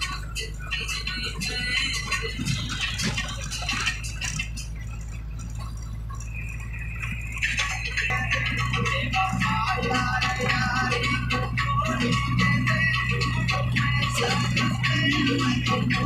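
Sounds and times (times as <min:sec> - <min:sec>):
music: 0:00.0 - 0:05.0, 0:06.3 - 0:16.0
vehicle engine droning: 0:00.0 - 0:16.0.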